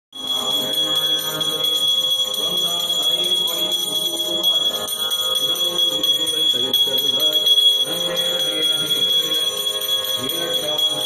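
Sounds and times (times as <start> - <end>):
hand bell ringing: 0.2 - 11.0.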